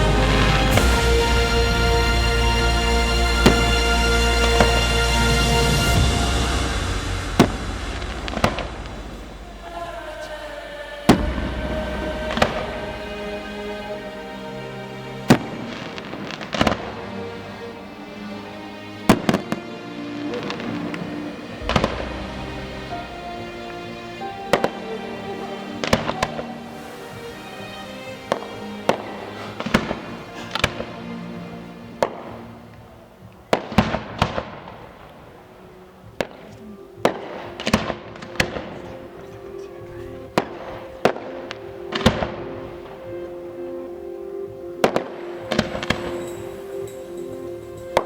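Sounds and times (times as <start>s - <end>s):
fireworks bursting: 0.0s - 43.7s, 44.5s - 48.0s
music: 0.0s - 48.0s.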